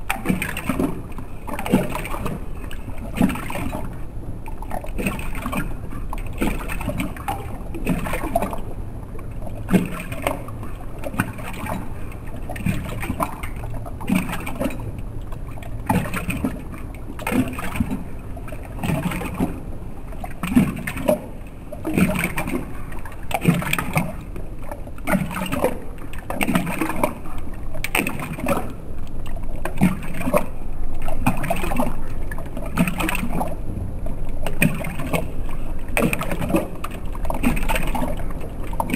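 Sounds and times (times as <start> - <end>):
dog lapping water slowed down: 0.0 - 38.9.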